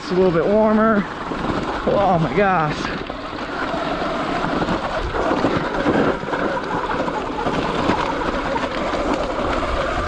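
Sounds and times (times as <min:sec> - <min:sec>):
tyres rolling on loose rock: 0:00.0 - 0:10.0
wind buffeting microphone: 0:00.0 - 0:10.0.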